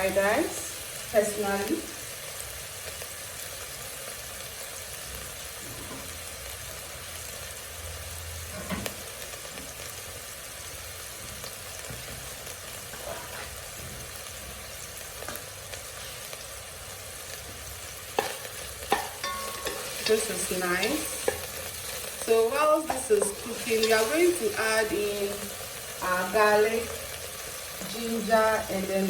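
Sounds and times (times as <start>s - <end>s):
meat sizzling in oil: 0.0s - 29.0s.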